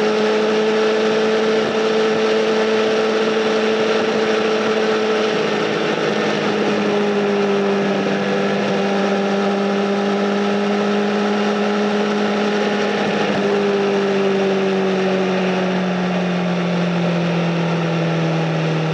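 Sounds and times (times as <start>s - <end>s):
wind noise: 0.0s - 17.1s
motorcycle engine cruising: 0.0s - 18.9s.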